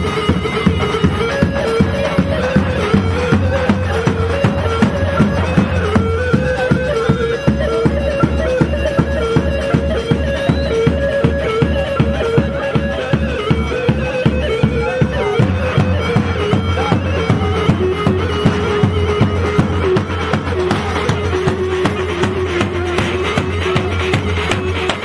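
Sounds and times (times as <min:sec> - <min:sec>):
drum beating steadily: 0:00.0 - 0:25.0.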